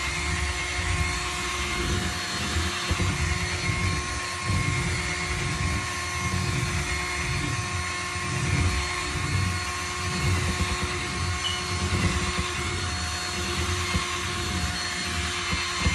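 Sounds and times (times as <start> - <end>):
small motor whining: 0.0 - 15.9.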